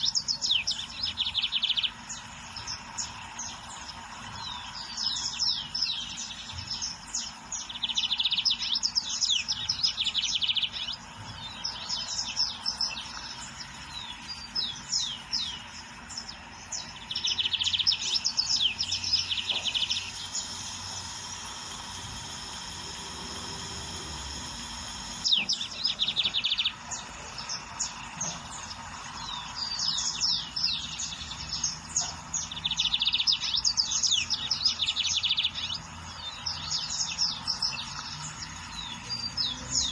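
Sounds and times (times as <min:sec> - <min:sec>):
bird singing buzzy trills: 0:00.0 - 0:39.9.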